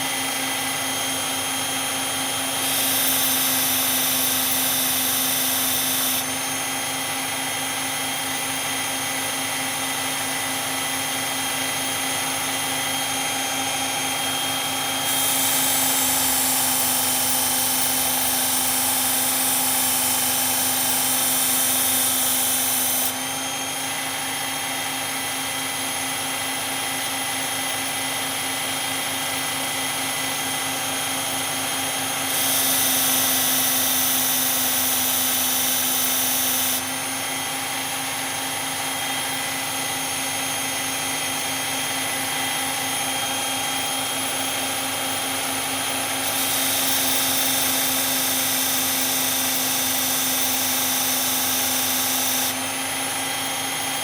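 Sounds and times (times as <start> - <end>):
belt sharpener grinding knife: 2.2 - 9.2, 11.7 - 24.7, 26.5 - 37.3, 38.2 - 54.0.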